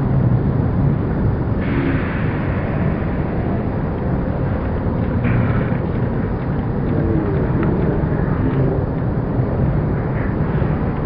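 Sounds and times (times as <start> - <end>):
rumble of busy hall: 0.0 - 11.0.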